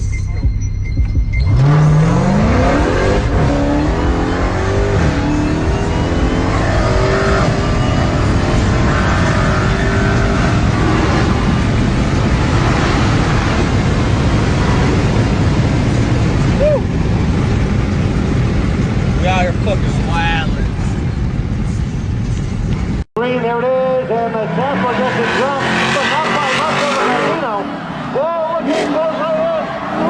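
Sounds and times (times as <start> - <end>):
racing car engine accelerating: 1.3 - 19.9, 23.8 - 30.0.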